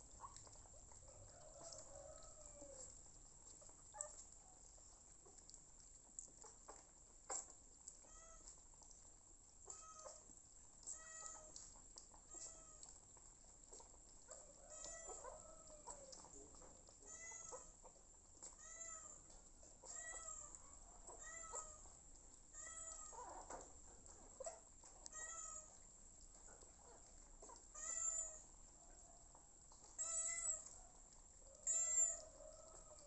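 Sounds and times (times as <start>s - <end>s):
puppies whining: 0.0s - 5.5s, 6.1s - 8.6s, 9.6s - 25.8s, 29.2s - 33.0s.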